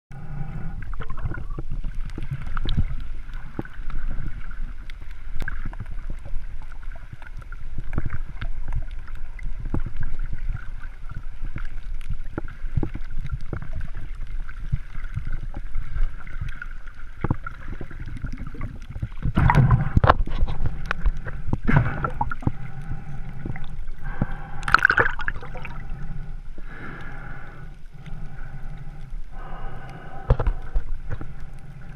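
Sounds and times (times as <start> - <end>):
muffled underwater churning: 0.1 - 31.9
sharp clicks and crackles: 0.8 - 31.9.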